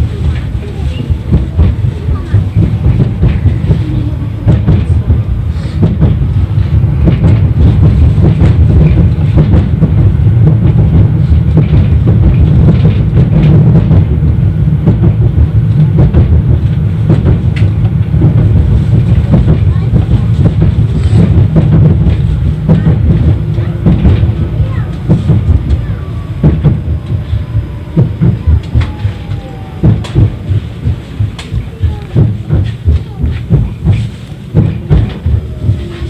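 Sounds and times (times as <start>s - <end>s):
tram wheels and motors rumbling: 0.0s - 36.0s.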